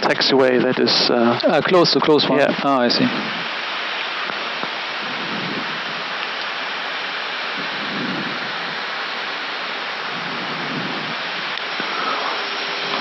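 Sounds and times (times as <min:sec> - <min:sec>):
cockpit airflow and ventilation rush: 0:00.0 - 0:13.0.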